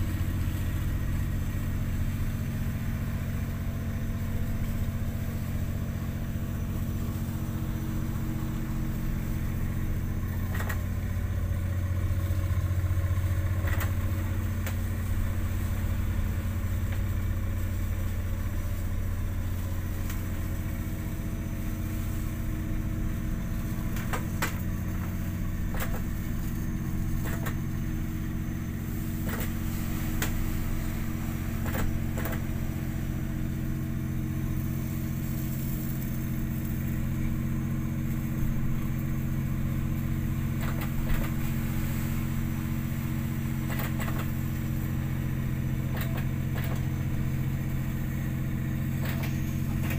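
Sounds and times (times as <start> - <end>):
ship engine droning: 0.0 - 49.9.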